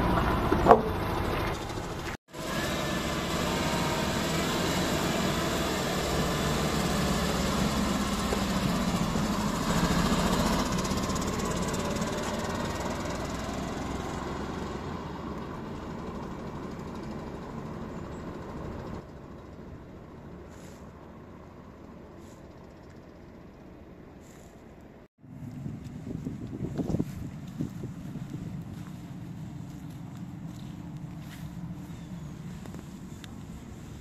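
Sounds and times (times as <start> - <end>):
vehicle engine running: 0.0 - 24.6, 25.2 - 34.0.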